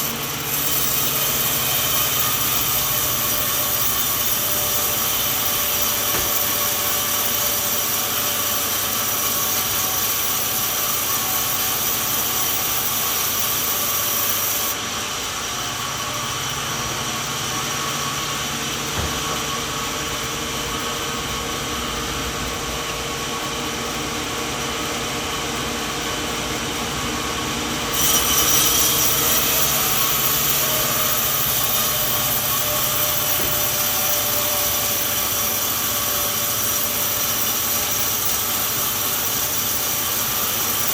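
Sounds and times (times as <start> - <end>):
sawmill saw cutting log: 0.0 - 40.9.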